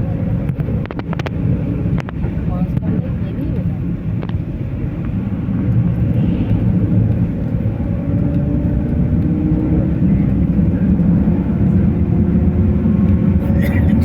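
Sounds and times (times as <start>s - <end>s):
faint engine hum: 0.0s - 14.0s
moving vehicle rumble: 0.0s - 14.0s.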